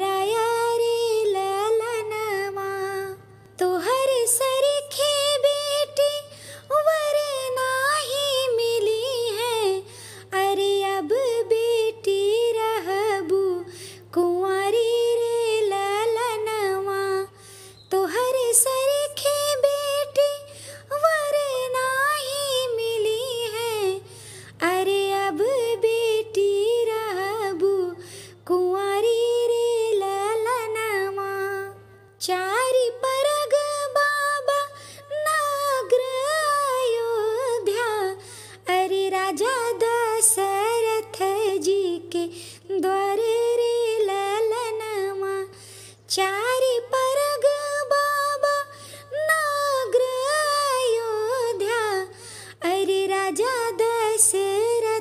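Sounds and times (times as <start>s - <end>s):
woman singing folk song: 0.0s - 55.0s.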